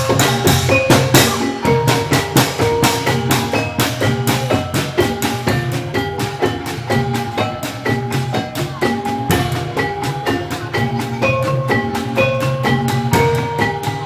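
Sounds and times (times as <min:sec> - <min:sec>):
drums: 0:00.0 - 0:14.0
pitched struck percussion: 0:00.0 - 0:14.0.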